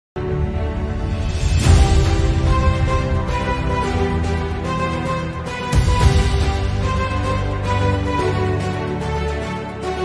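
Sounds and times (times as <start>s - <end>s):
background music with heavy bass: 0.6s - 10.0s.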